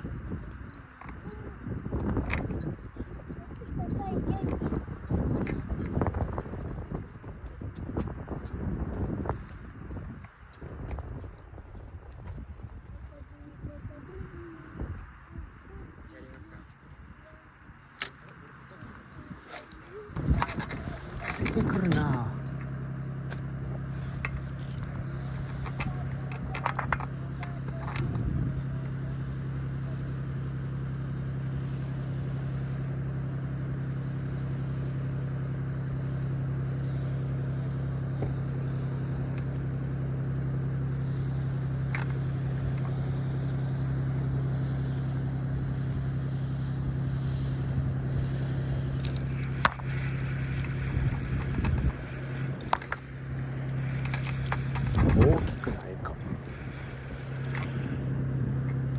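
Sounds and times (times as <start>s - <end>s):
low mechanical hum: 0.0s - 58.9s.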